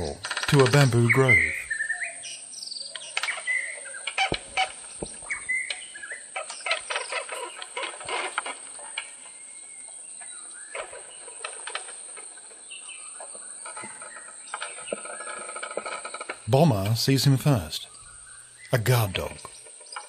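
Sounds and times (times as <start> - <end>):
birds chirping: 0.0 - 11.6, 12.3 - 20.0.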